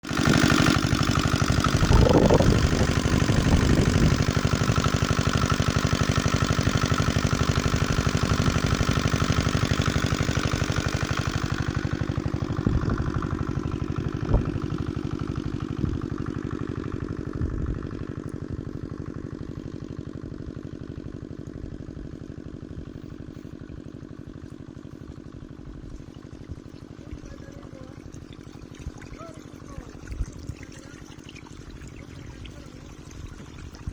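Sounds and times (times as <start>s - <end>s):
small diesel engine knocking: 0.0s - 33.9s.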